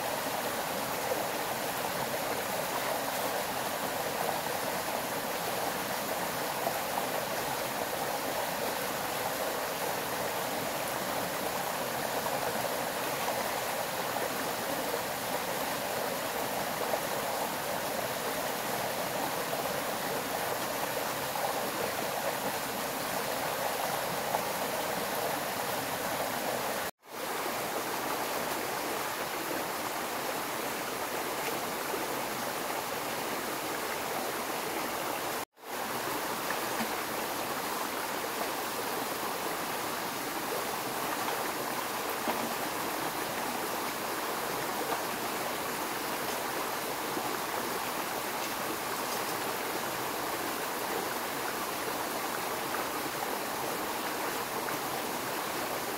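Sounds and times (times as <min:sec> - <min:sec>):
flowing stream: 0:00.0 - 0:55.9.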